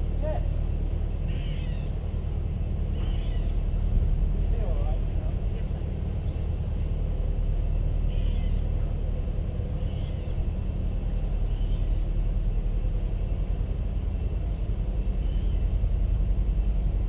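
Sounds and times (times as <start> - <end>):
diesel boat engine rumbling: 0.0 - 17.0.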